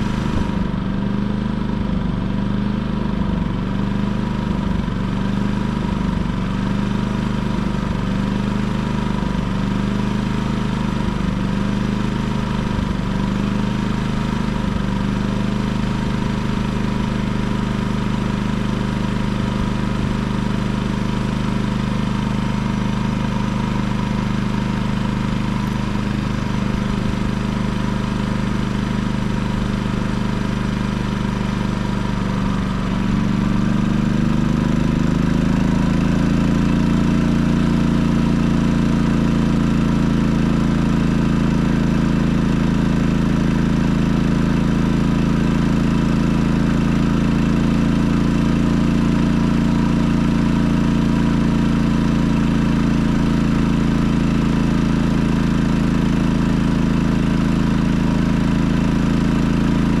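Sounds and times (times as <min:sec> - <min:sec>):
generator engine running: 0:00.0 - 1:00.0.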